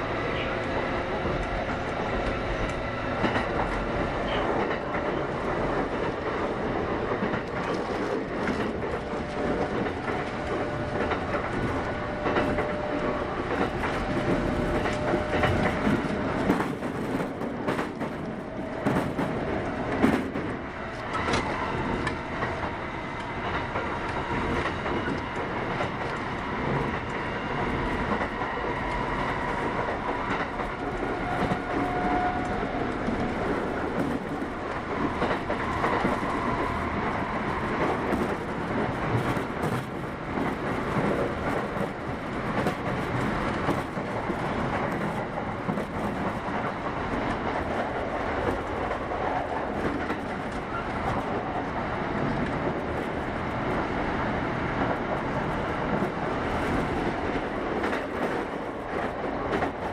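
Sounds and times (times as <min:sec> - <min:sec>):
electric train rolling: 0:00.0 - 0:59.9.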